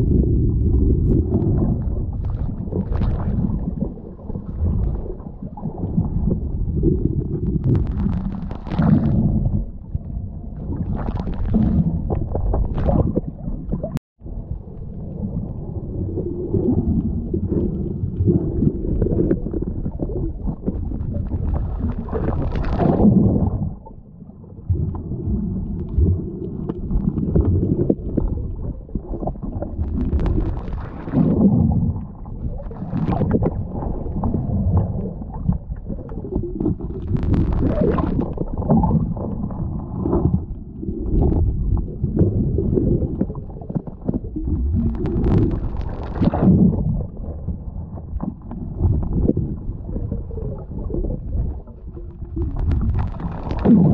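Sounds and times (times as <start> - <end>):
bubbling surges: 0.0 - 53.9
underwater rumble and gurgling: 0.0 - 53.9.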